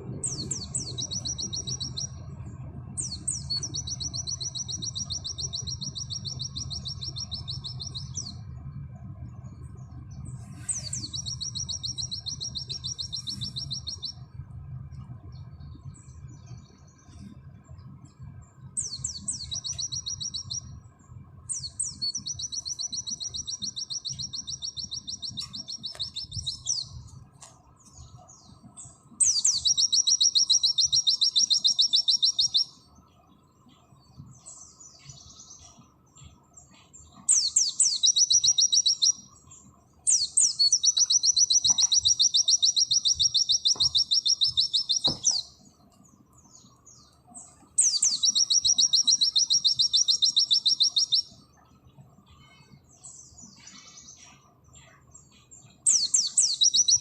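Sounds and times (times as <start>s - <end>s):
bird singing fast trills: 0.0s - 57.0s.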